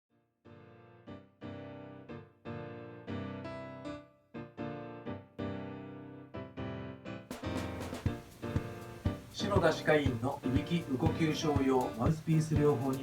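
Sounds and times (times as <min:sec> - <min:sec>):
slow piano chords: 0:00.5 - 0:13.0.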